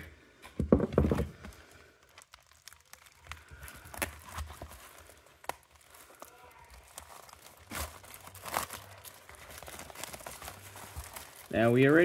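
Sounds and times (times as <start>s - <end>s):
plastic shrink wrap crinkling: 1.0s - 12.0s
plastic wrap crackles: 1.0s - 12.0s.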